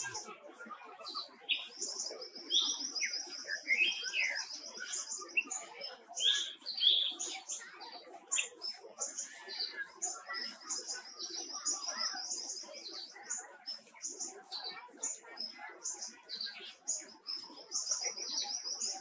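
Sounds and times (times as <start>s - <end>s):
songbirds chirping and whistling: 0.0s - 19.0s.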